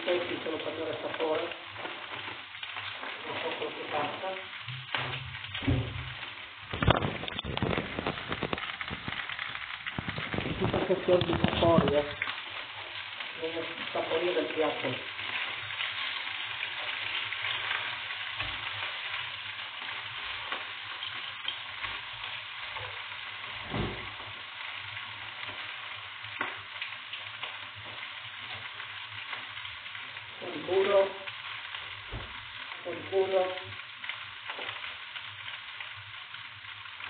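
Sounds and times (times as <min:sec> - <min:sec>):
utensil stirring in pan: 0:00.0 - 0:37.0
vegetables sizzling in oil: 0:00.0 - 0:37.0.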